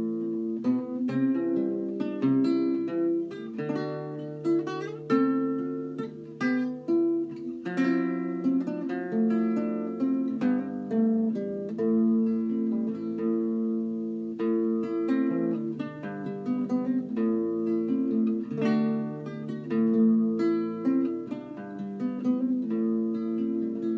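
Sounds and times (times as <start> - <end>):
classical guitar playing folk tune: 0.0 - 23.9.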